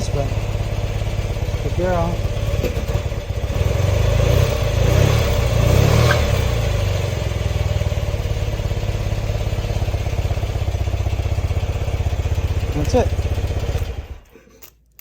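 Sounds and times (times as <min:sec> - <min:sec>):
motorcycle engine idling: 0:00.0 - 0:14.3.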